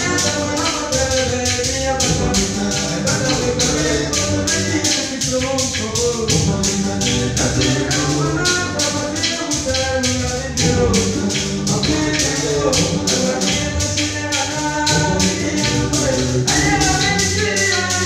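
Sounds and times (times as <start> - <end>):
fast shaker beat: 0.0 - 18.0
music: 0.0 - 18.0
vocal group singing: 0.0 - 18.0.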